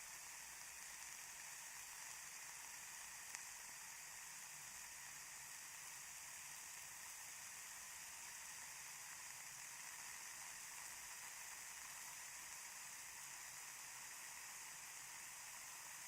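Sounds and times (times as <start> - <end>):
ear candles burning hiss: 0.0 - 16.0.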